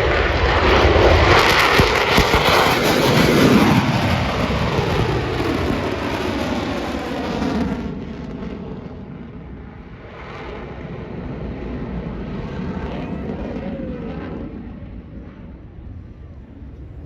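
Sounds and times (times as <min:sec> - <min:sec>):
jet engines flyby: 0:00.0 - 0:17.0.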